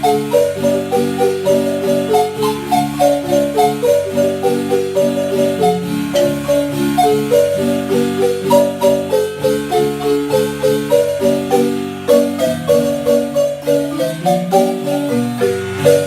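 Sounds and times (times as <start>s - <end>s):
bass notes: 0.0s - 16.0s
marimba melody: 0.0s - 16.0s.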